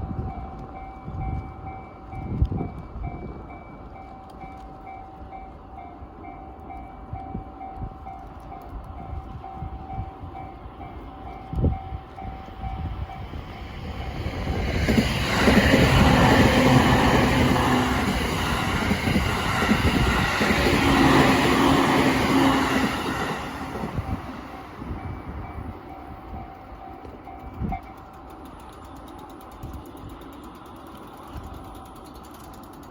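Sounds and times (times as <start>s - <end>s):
train passing: 0.0s - 32.9s.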